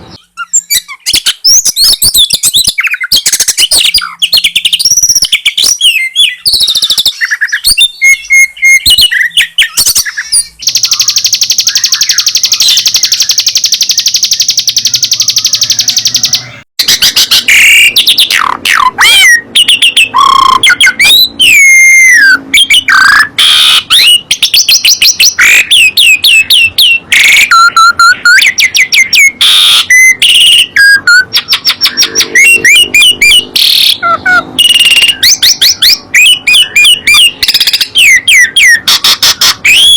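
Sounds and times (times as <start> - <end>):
fast buzzing bird trill: 0.0 - 39.9
songbirds singing: 0.0 - 39.9.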